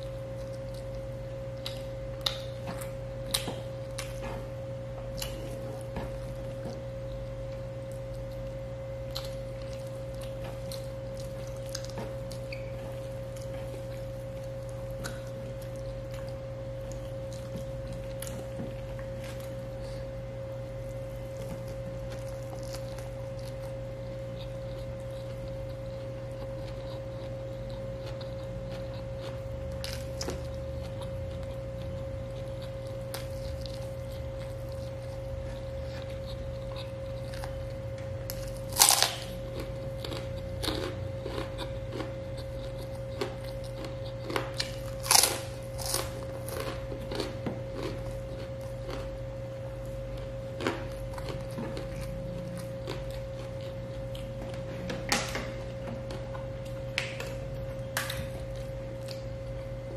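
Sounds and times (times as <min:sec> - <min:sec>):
chewing and biting food: 0:00.0 - 0:20.1, 0:20.8 - 0:59.9
steady low hum: 0:00.0 - 0:59.9.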